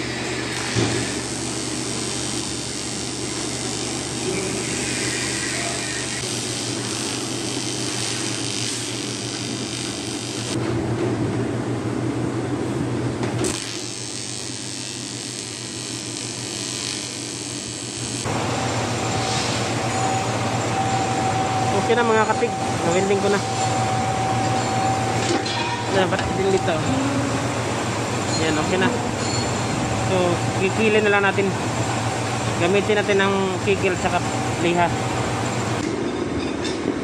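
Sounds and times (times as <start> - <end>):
welding arc hissing: 0.0 - 10.6, 13.3 - 35.9
low hum: 0.0 - 36.0.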